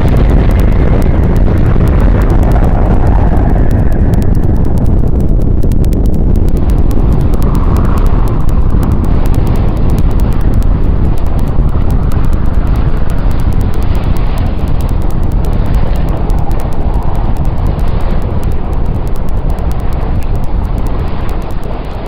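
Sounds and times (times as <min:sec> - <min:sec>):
deep rumble: 0:00.0 - 0:22.0
rapid crackle of ticks: 0:00.0 - 0:22.0.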